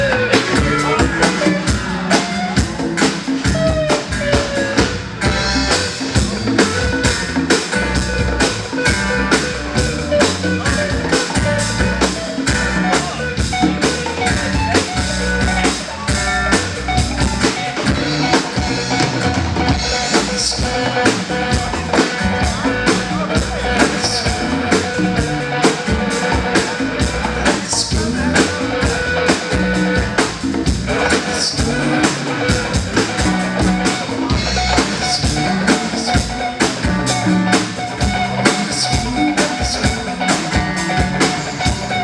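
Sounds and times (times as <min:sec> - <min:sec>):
drum kit beat: 0:00.0 - 0:42.0
live band playing: 0:00.0 - 0:42.0.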